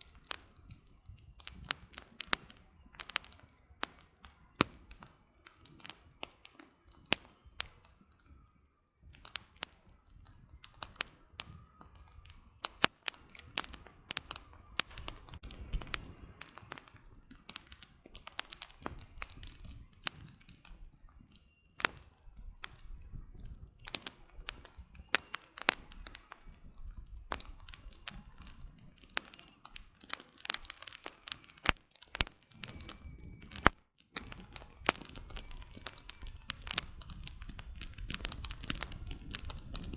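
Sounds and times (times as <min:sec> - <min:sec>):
campfire crackling and popping: 0:00.0 - 0:39.9
low rumble of flame: 0:00.0 - 0:39.9.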